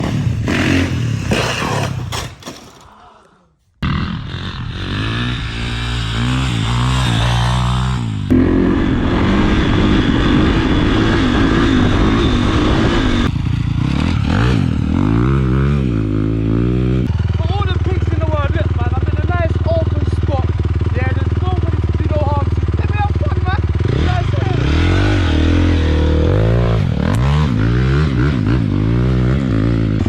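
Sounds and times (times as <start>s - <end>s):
dirt bike engine revving: 0.0s - 2.3s, 3.8s - 30.0s.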